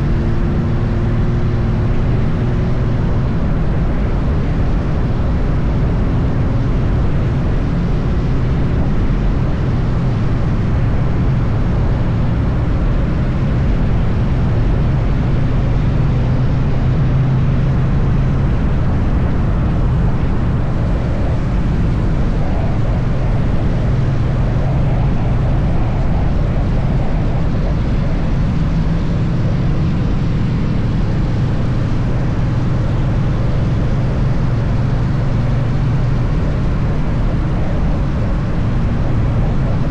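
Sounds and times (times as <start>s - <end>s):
motorcycle engine drone: 0.0s - 39.9s
wind and road noise: 0.0s - 39.9s.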